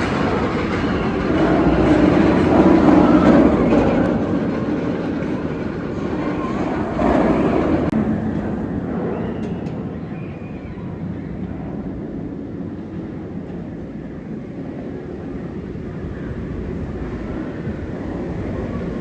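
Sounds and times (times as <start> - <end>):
roller coaster train rumbling: 0.0 - 19.0.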